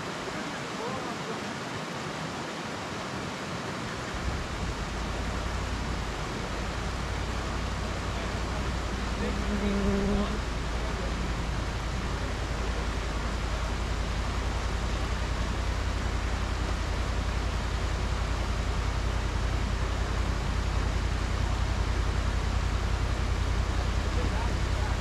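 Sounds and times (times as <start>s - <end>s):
engine idling low rumble: 3.7s - 25.0s
even hiss: 4.0s - 25.0s.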